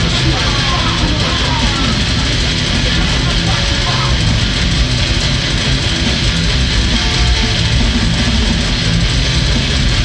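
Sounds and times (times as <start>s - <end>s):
heavy instrumental rock music: 0.0s - 10.0s.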